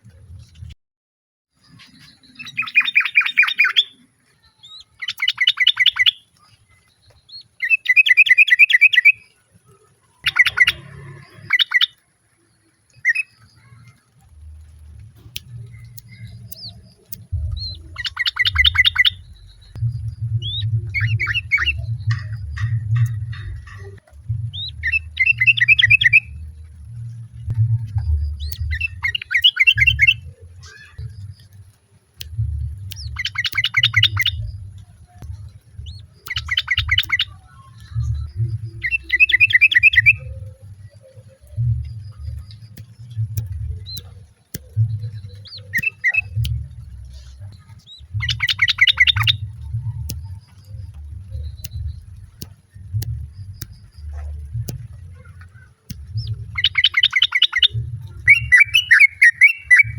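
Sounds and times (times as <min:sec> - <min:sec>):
bird chattering song: 0:01.6 - 0:09.4, 0:10.2 - 0:12.0, 0:12.6 - 0:59.9
low rumbling noise: 0:09.6 - 0:11.6, 0:12.2 - 0:59.9.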